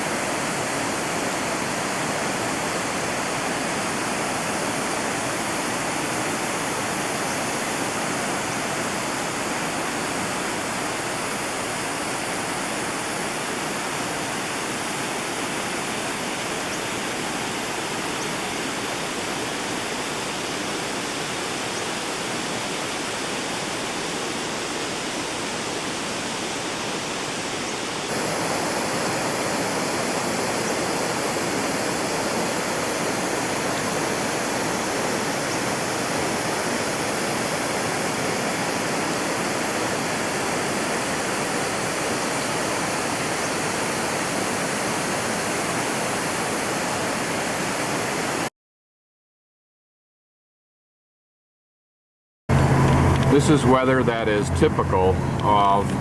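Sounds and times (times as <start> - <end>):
forest stream rushing water: 0.0 - 48.5, 52.5 - 56.0.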